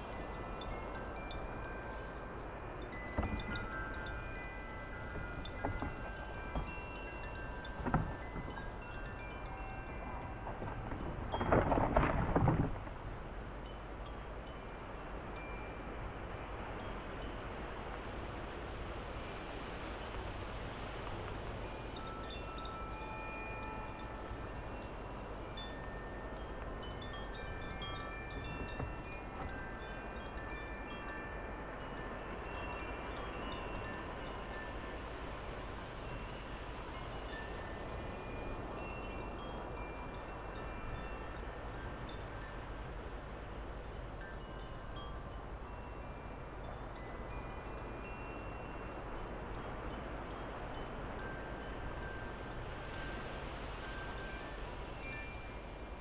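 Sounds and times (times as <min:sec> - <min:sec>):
wind chimes ringing: 0:00.0 - 0:12.6, 0:13.6 - 0:56.0.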